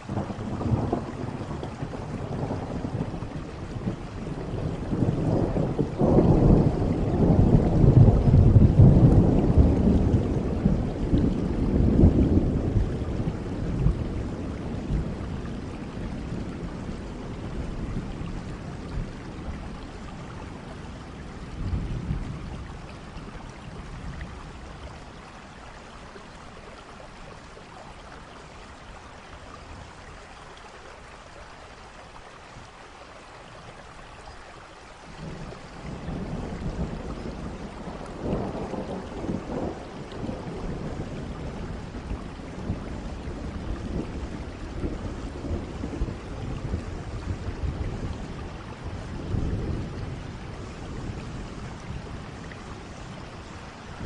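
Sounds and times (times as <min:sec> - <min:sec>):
rolling thunder: 0:00.0 - 0:25.0, 0:35.1 - 0:54.0
steady rain: 0:00.0 - 0:54.0.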